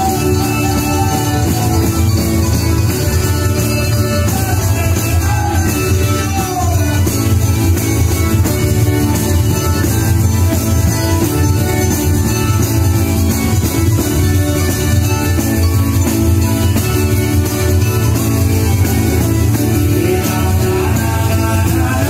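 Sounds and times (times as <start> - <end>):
acoustic guitars playing dance tune: 0.0 - 22.0.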